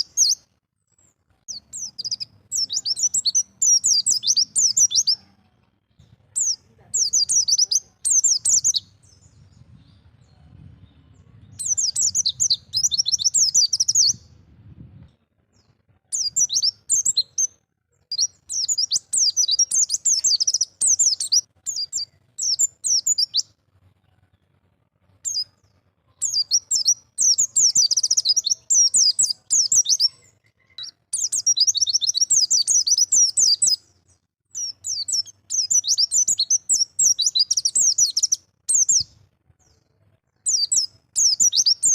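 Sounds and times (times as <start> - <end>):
bird twittering song: 0.0 - 5.3, 5.9 - 14.8, 15.5 - 23.6, 25.2 - 41.9.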